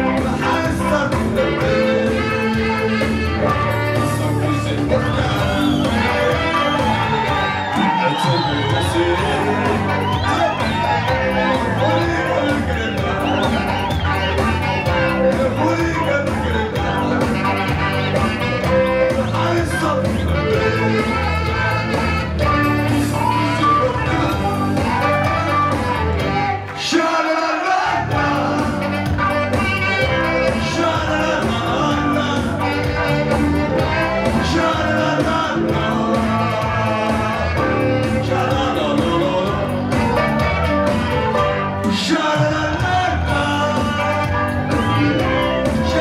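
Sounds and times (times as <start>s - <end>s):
dance music with singer: 0.0s - 46.0s.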